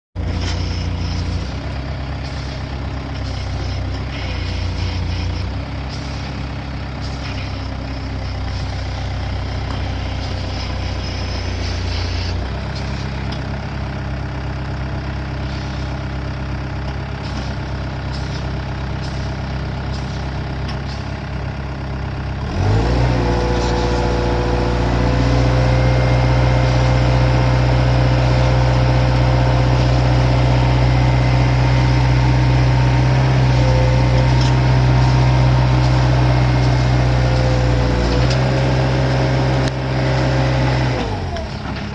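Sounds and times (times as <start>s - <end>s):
skid steer engine running: 0.2s - 41.9s.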